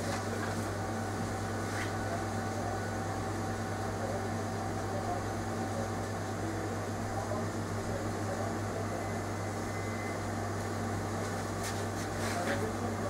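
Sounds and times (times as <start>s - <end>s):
electrical hum with fan hiss: 0.0s - 13.0s.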